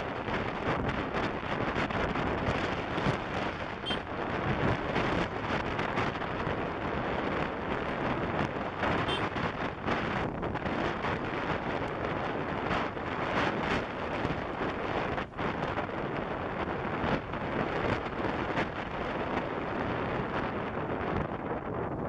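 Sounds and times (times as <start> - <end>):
motorbike running: 0.0 - 22.0
wind buffeting microphone: 0.0 - 22.0.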